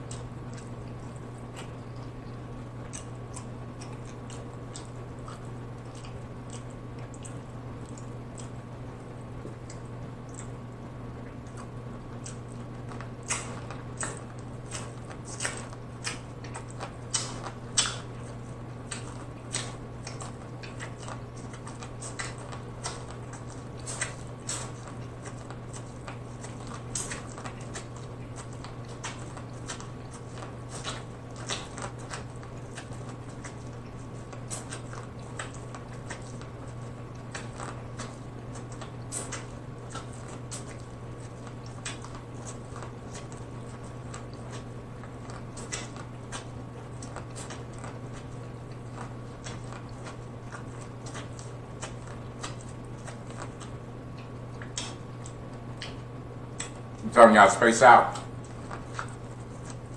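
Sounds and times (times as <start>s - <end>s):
chewing corn on the cob: 0.0s - 59.9s
steady low hum: 0.0s - 59.9s.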